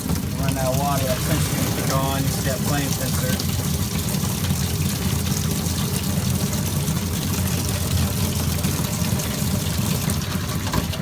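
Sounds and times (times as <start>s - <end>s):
water heater humming: 0.0s - 11.0s
water pouring into a pan: 0.0s - 11.0s.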